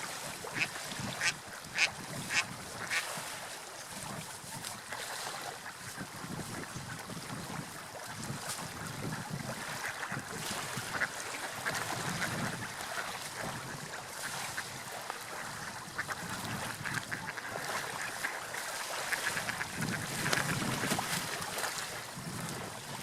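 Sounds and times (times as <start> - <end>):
sea waves: 0.0 - 23.0
wind: 0.0 - 23.0.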